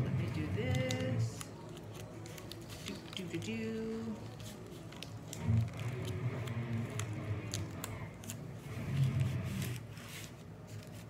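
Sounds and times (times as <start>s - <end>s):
masking tape crackling: 0.0s - 11.0s.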